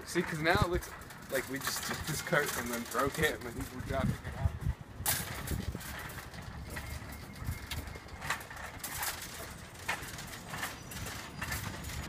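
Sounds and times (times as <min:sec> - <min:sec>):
cart frame clacking and rattling: 0:00.0 - 0:12.0
cart wheels rumbling on concrete: 0:00.0 - 0:12.0.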